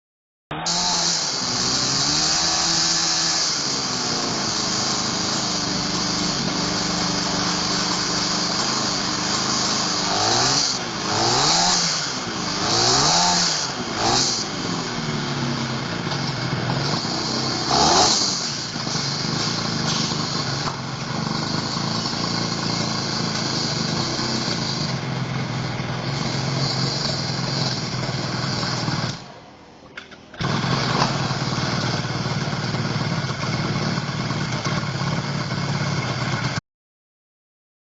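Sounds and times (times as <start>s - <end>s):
two-stroke engine idling and revving: 0.5s - 29.4s, 30.3s - 36.6s.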